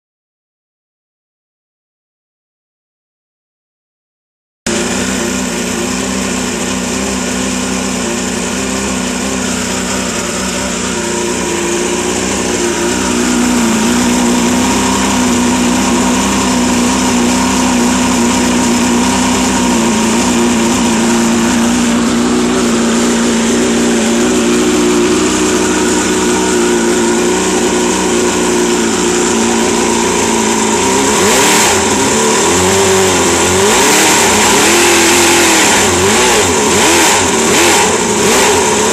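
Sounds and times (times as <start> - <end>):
two-stroke outboard engine running: 4.7 - 38.9.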